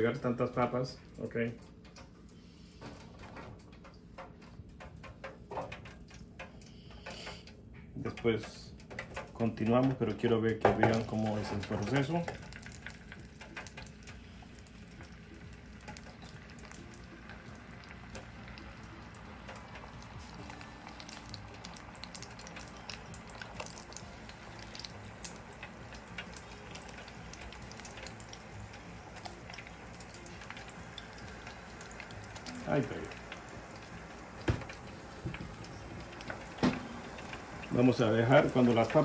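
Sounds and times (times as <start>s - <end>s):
oil bubbling with crackles: 0.0s - 39.0s.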